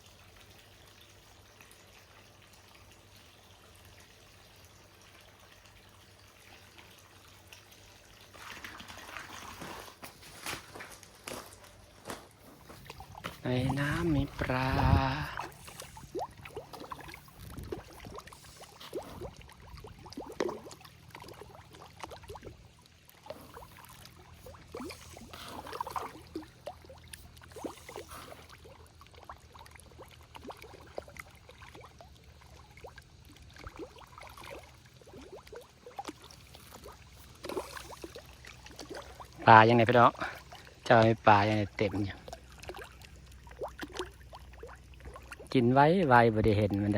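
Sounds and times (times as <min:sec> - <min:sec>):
splashes and plops in pond water: 0:00.0 - 0:46.9.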